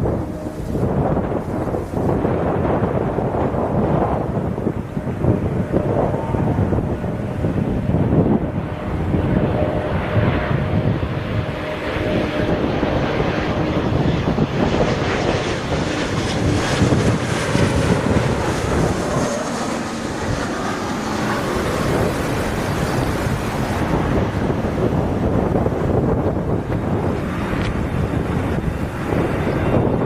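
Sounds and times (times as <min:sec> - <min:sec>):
jet engine of landing airliner: 0:00.0 - 0:30.0
wind buffeting microphone: 0:00.0 - 0:30.0.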